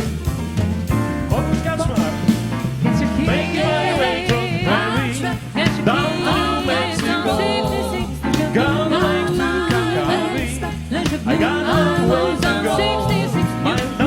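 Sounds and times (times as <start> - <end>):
drums: 0.0 - 14.0
jazz vocal group singing: 0.0 - 14.0
walking bass: 0.0 - 14.0.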